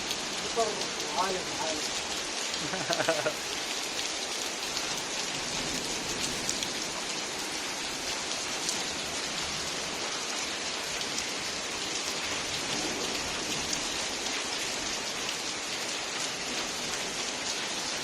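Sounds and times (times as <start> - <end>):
heavy rain on hard surfaces: 0.0 - 18.0.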